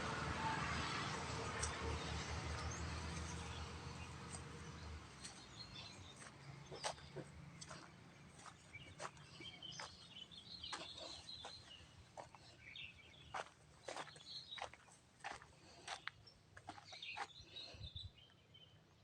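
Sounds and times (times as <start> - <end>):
small birds chirping: 1.6 - 19.0.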